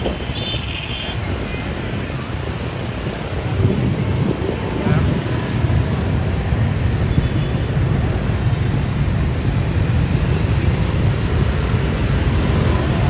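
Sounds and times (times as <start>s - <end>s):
heavy street traffic rumble: 0.0s - 13.0s.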